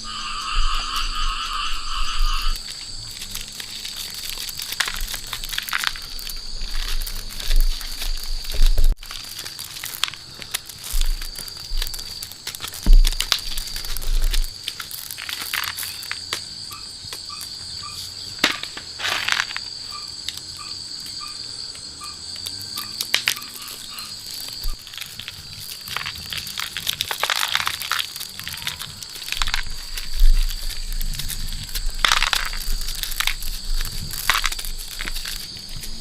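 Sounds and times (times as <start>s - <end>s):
insects droning: 0.0s - 36.0s
crunching handling noise: 1.8s - 21.2s, 22.3s - 36.0s.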